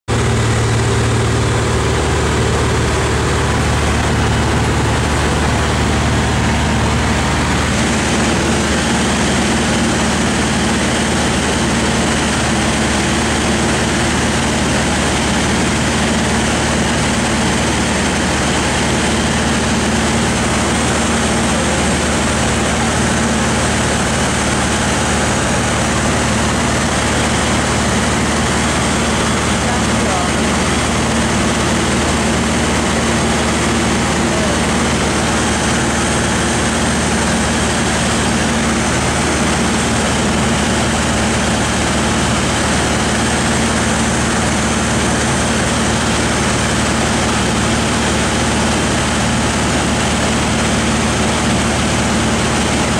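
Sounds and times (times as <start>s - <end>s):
propeller aircraft engine droning: 0.0s - 52.9s.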